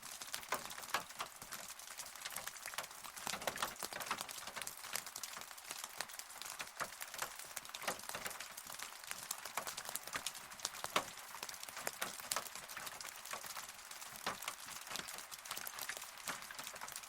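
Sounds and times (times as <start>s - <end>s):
rain hiss: 0.0s - 17.0s
raindrops ticking: 0.0s - 17.0s.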